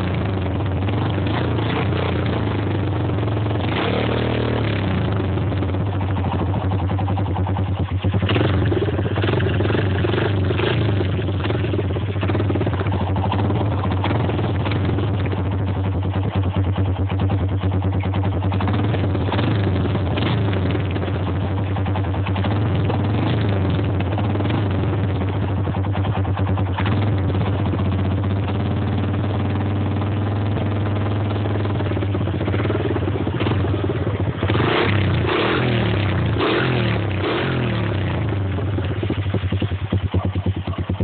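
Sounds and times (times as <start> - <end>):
quad bike engine revving: 0.0 - 41.0.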